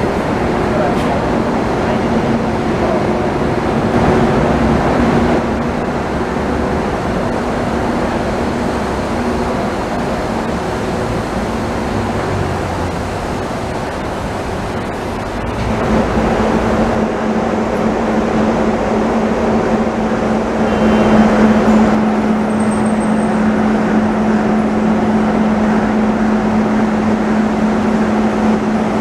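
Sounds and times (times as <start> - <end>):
monorail train rumbling: 0.0 - 29.0.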